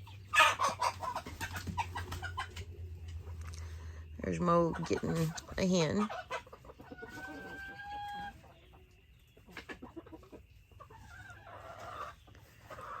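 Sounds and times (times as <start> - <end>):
chicken squawk: 0.0 - 2.7, 4.6 - 13.0
chickens clucking: 0.0 - 13.0.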